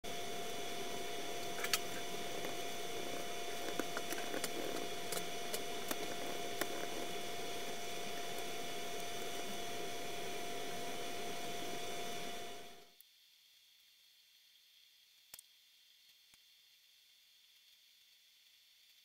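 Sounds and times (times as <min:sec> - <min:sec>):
mechanical hum with whine: 0:00.0 - 0:19.0.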